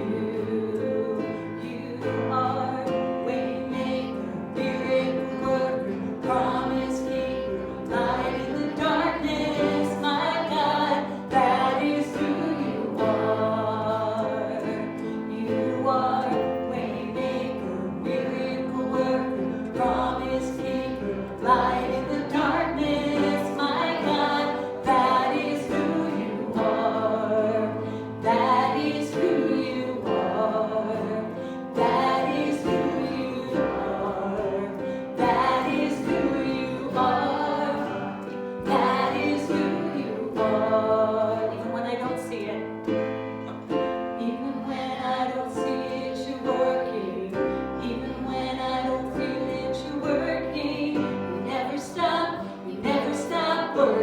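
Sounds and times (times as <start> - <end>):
voices singing: 0.0 - 54.0
worship band playing: 0.0 - 54.0.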